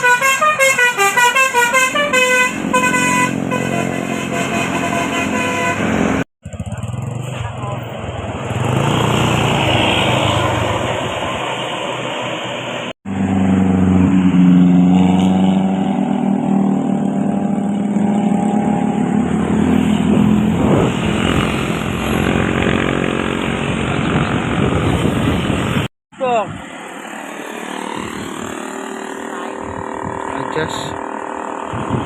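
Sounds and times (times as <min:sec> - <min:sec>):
bus engine droning: 0:00.0 - 0:32.0
road traffic noise: 0:00.0 - 0:32.0.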